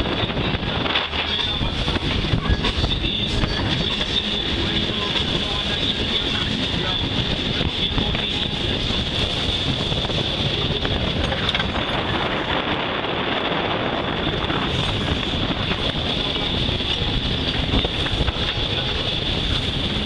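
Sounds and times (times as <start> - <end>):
sea rushing along hull: 0.0 - 20.0
wind buffeting microphone: 0.0 - 20.0.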